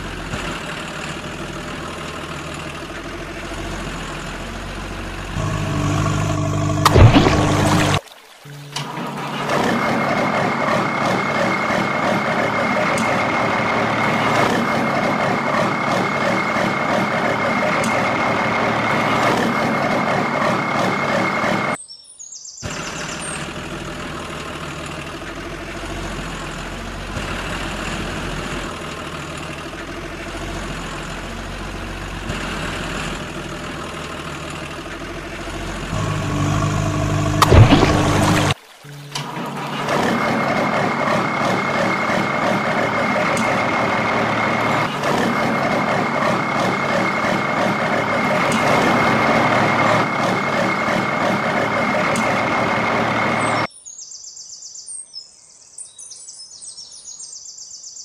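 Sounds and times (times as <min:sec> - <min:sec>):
truck engine running: 0:00.0 - 0:21.8, 0:22.6 - 0:53.7.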